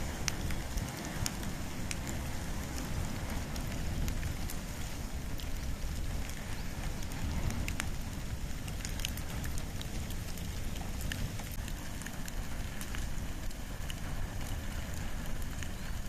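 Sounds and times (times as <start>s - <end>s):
fire burning with crackles: 0.0s - 16.0s.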